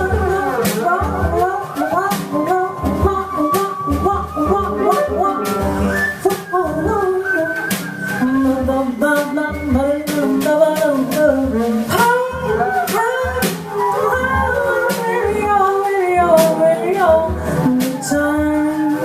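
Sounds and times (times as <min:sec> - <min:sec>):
drum cymbals: 0:00.0 - 0:19.0
piano: 0:00.0 - 0:19.0.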